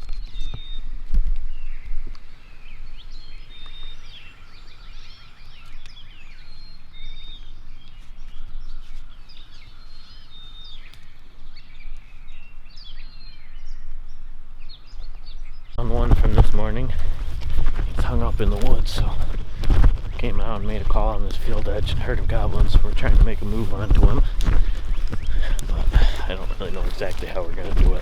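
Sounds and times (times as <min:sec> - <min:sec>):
songbirds singing and chirping: 0:00.0 - 0:28.0.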